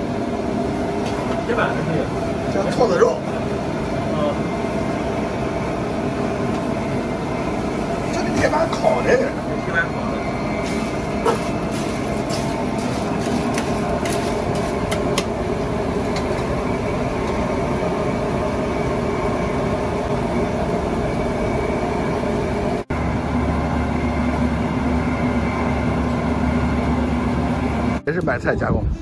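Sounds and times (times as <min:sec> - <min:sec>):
machine roar: 0:00.0 - 0:28.0
deep steady hum: 0:00.0 - 0:29.0.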